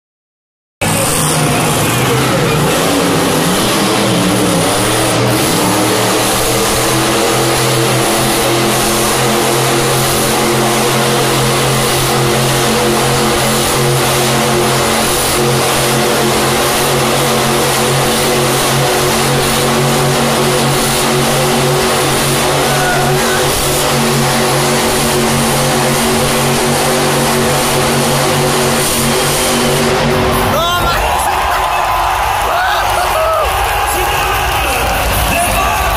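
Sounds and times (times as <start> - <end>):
truck engine droning at high revs: 0.8 - 35.9.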